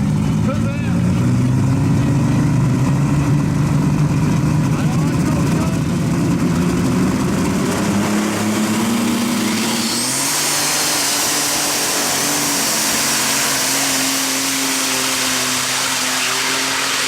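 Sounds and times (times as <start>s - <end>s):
high engine whine: 0.0s - 17.0s
tractor engines running flat out: 0.0s - 17.0s.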